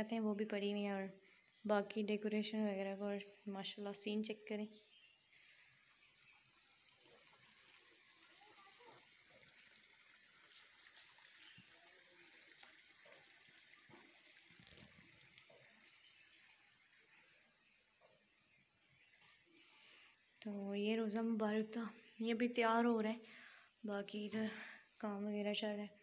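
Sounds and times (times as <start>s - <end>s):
faint outdoor hiss: 0.0s - 26.0s.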